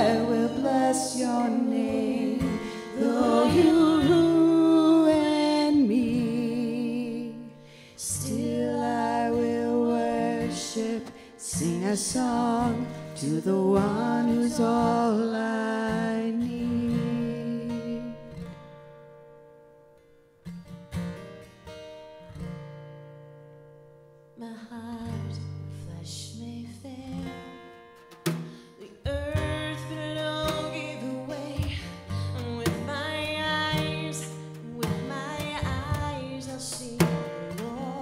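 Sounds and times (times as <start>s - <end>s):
woman singing: 0.0s - 18.4s, 24.4s - 27.7s, 28.6s - 38.0s
acoustic guitar strumming: 0.0s - 38.0s.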